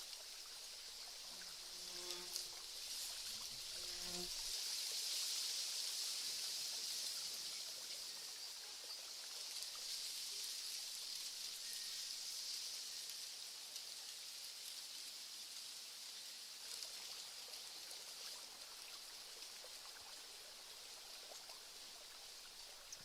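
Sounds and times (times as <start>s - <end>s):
flowing water hiss: 0.0s - 23.0s.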